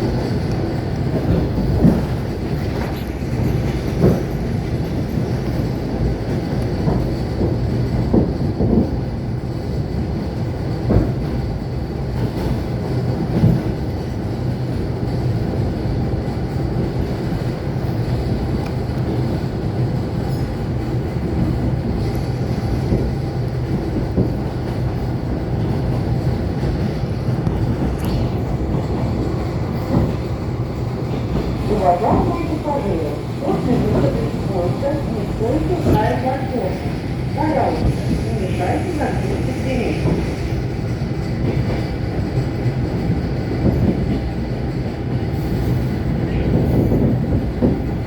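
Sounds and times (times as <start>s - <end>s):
train wheels rumbling: 0.0s - 48.0s.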